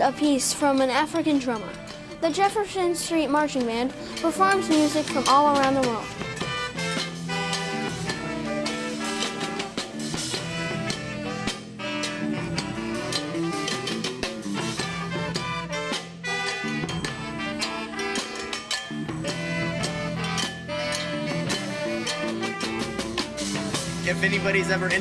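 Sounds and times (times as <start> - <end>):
steady drum beat: 0.0 - 25.0
brass horns playing: 3.9 - 25.0.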